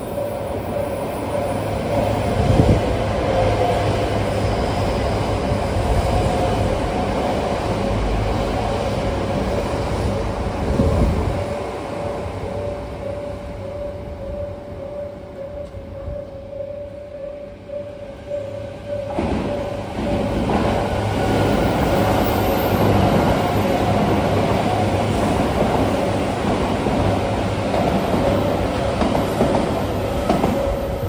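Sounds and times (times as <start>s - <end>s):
train wheels rushing on rails: 0.0s - 16.0s, 17.6s - 31.0s.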